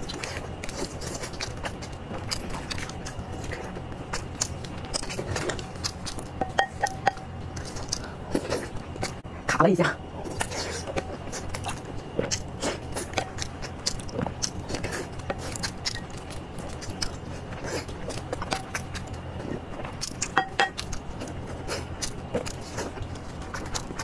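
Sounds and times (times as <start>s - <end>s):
wet chewing: 0.0s - 9.3s, 10.2s - 24.0s
low hum: 0.0s - 24.0s.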